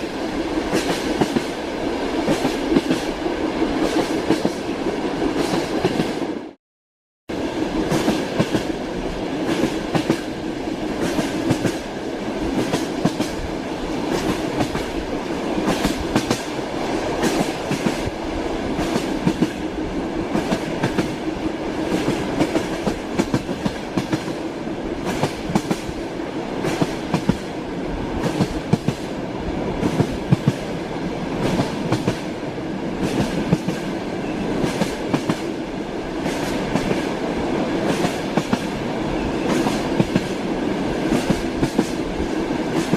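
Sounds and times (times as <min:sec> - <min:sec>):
train wheels rumbling on rails: 0:00.0 - 0:06.6, 0:07.3 - 0:42.9.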